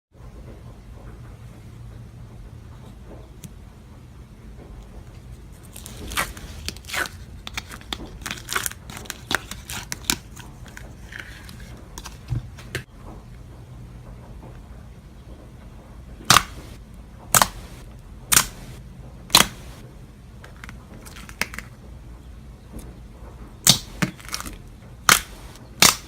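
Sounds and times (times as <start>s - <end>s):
low steady hum: 0.2s - 26.0s
crinkling and crackling: 0.4s - 22.0s, 22.6s - 26.0s.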